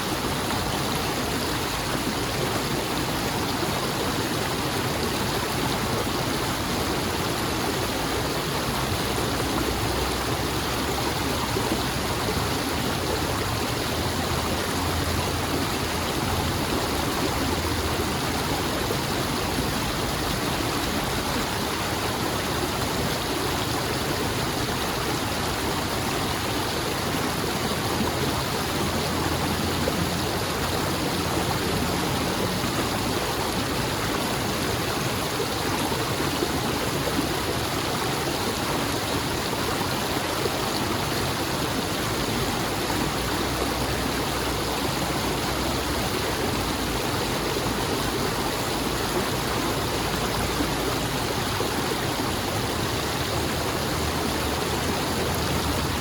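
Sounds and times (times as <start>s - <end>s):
stream rushing and burbling: 0.0s - 56.0s.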